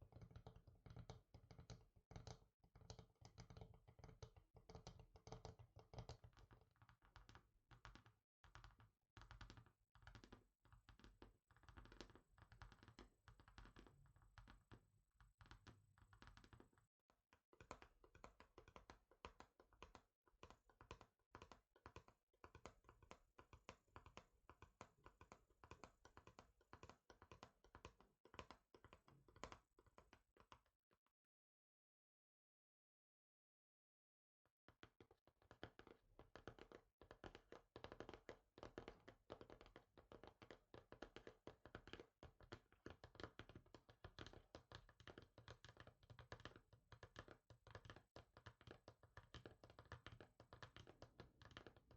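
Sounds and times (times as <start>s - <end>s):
fingers tapping on a surface: 0.0s - 30.7s, 34.7s - 51.9s.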